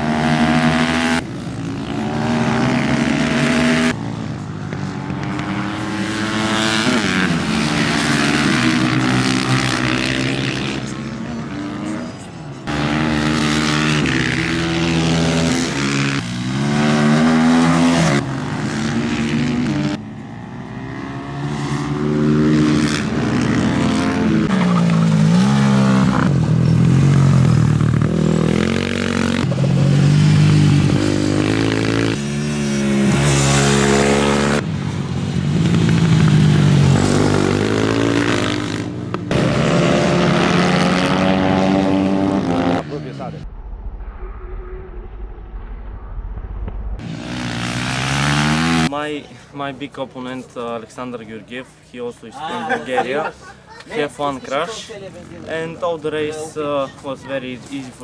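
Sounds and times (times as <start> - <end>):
motorcycle engines revving: 0.0 - 43.5, 47.0 - 58.0.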